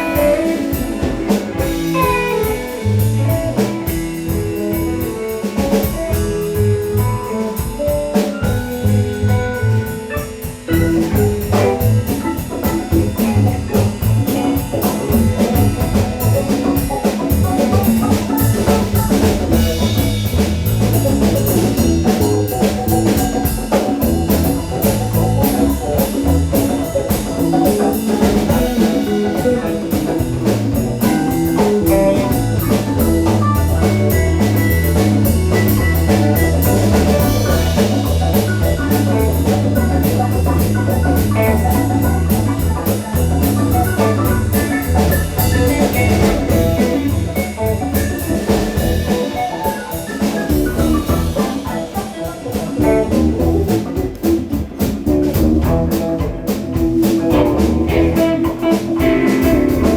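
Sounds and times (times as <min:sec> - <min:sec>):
bass guitar: 0:00.0 - 0:59.9
drum kit with cymbals: 0:00.0 - 0:59.9
electric guitar: 0:00.0 - 0:59.9.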